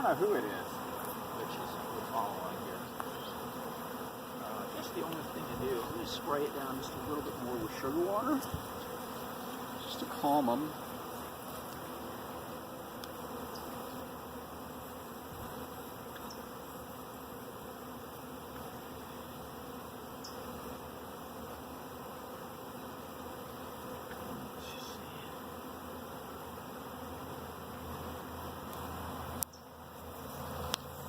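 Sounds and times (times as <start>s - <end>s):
bee swarm buzzing: 0.0s - 31.0s.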